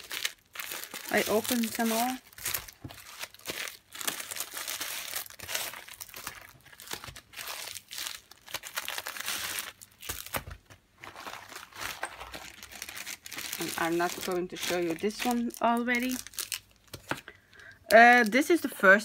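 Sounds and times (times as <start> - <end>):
plastic packaging crinkling: 0.0 - 18.7.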